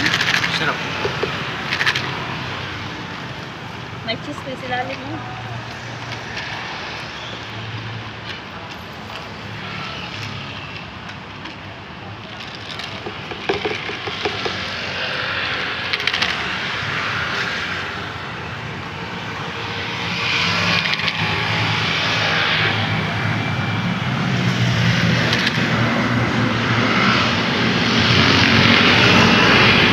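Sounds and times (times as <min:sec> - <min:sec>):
traffic rumble and hiss: 0:00.0 - 0:29.9.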